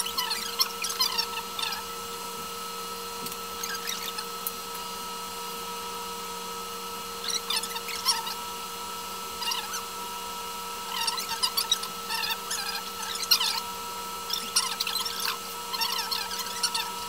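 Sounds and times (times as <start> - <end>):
electric hair clippers humming: 0.0 - 17.0.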